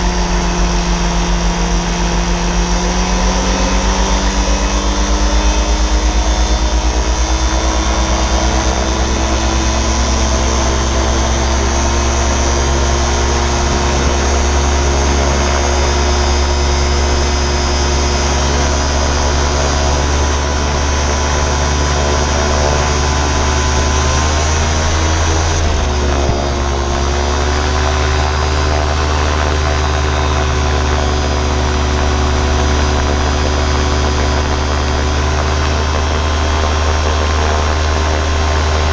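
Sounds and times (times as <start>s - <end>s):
gyroplane engine and propeller: 0.0s - 38.9s.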